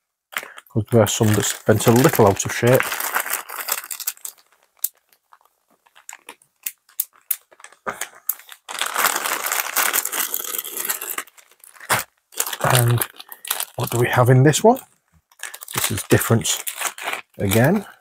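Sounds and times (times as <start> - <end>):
plastic bag crinkling: 0.4 - 18.0.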